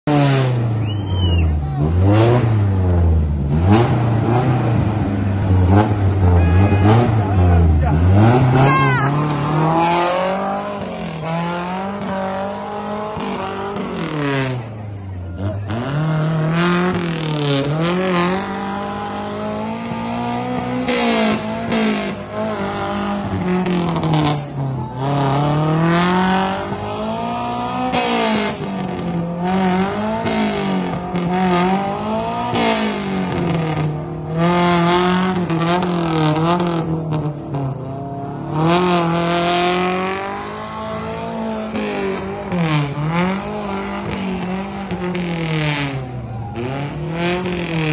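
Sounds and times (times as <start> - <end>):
engine revving hard: 1.8 - 14.7, 15.4 - 47.9.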